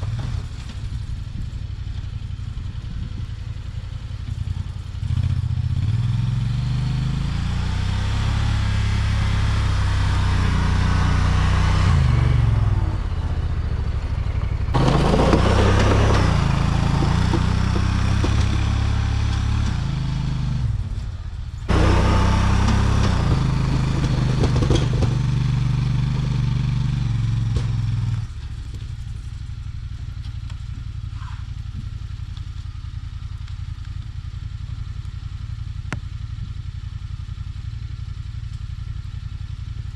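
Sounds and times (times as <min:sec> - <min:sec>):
snow plow engine working: 0:00.0 - 0:39.9.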